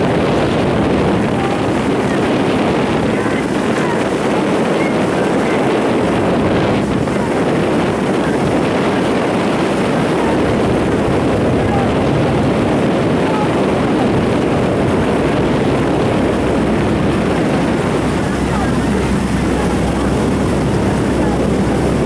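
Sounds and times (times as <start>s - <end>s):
outboard engine rumbling: 0.0s - 22.0s
water noise: 0.0s - 22.0s
wind on microphone: 0.0s - 22.0s.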